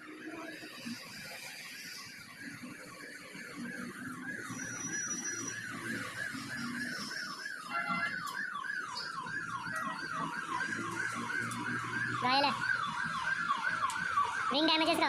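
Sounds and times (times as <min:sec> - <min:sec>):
electronic siren wailing: 0:00.0 - 0:15.0.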